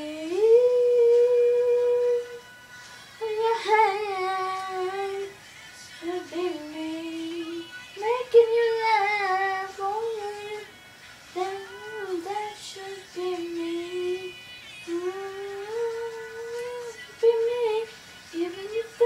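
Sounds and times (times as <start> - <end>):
girl singing wordless notes: 0.0 - 19.0.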